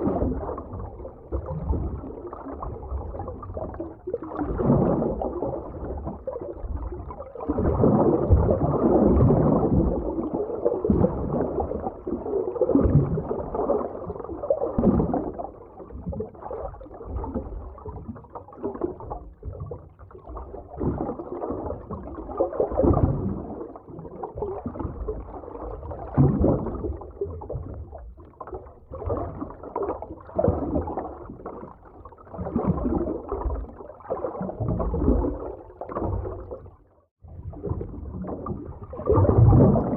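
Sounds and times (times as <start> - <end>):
muffled underwater water surges: 0.0 - 39.9.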